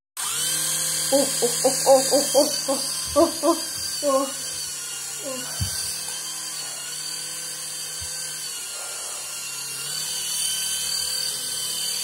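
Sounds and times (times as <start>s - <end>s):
tiny propeller motors whining: 0.2s - 12.0s.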